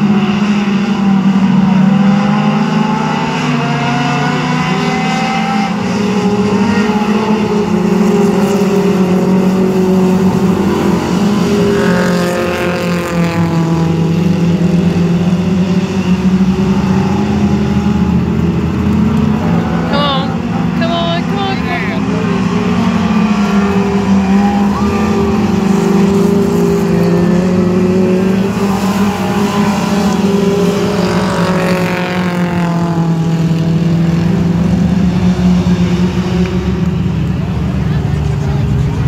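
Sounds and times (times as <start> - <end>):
race car engines: 0.0 - 39.0.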